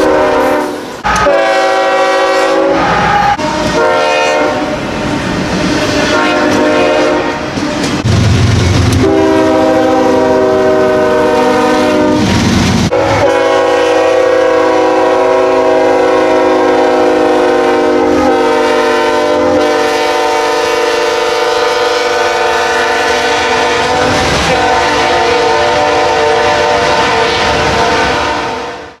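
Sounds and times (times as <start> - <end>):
locomotive air horn chord: 0.0 - 4.8, 5.8 - 7.6, 9.0 - 12.2, 12.9 - 29.0.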